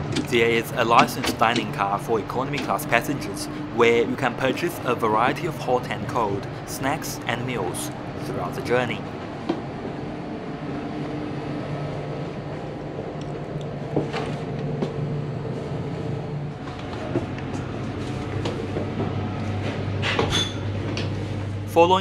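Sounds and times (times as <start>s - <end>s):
train carriage hum: 0.0s - 22.0s.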